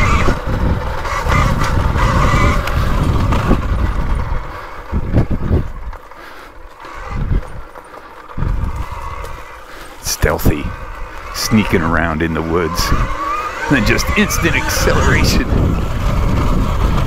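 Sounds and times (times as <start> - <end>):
electric motor and gear whine: 0.0 - 17.0
tyres rumbling over ground: 0.0 - 17.0.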